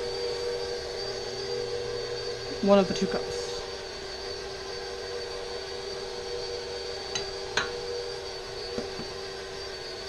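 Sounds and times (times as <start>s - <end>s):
electric mixer motor hum: 0.0s - 10.0s.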